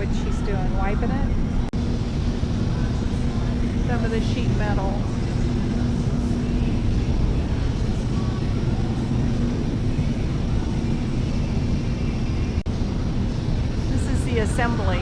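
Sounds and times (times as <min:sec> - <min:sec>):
low hum: 0:00.0 - 0:15.0
low rumble: 0:00.0 - 0:15.0.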